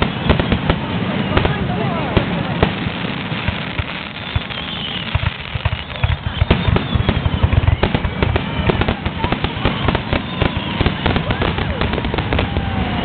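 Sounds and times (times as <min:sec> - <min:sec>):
fireworks booming and cracking: 0:00.0 - 0:13.0.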